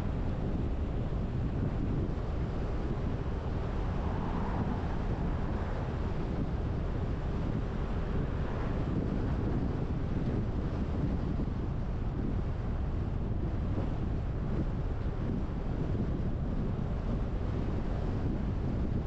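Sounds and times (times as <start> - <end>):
car road noise rumble: 0.0 - 19.0
wind rushing on microphone: 0.0 - 19.0.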